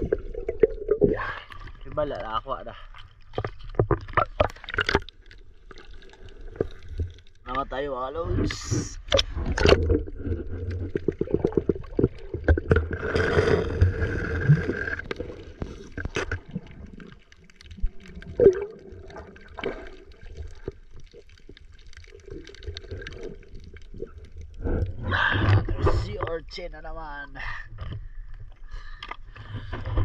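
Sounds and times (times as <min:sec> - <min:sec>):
muffled underwater rumble: 0:00.0 - 0:26.6
underwater bubbling: 0:00.0 - 0:26.6
underwater clicking and crackling: 0:00.0 - 0:26.8, 0:27.6 - 0:30.0.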